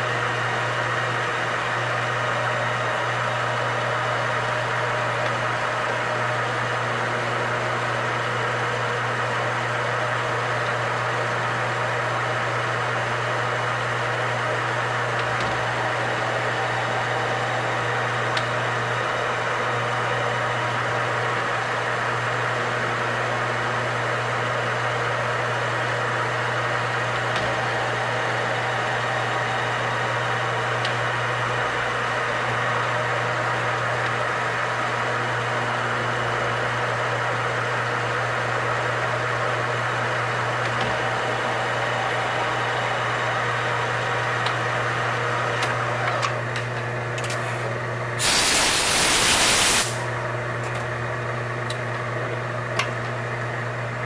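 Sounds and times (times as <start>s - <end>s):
metal lathe humming and whirring: 0.0s - 47.2s.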